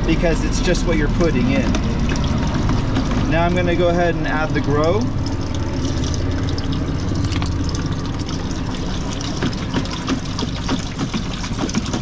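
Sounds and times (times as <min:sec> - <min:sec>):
low hum: 0:00.0 - 0:11.8
water running from hose into bucket: 0:00.0 - 0:12.0
water splashing: 0:00.0 - 0:12.0.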